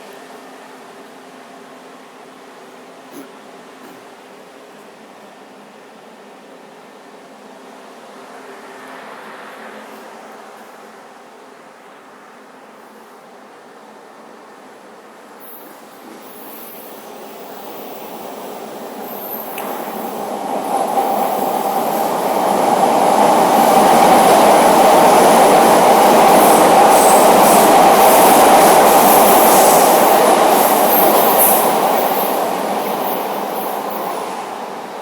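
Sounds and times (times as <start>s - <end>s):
subway train rumbling past: 0.0s - 35.0s.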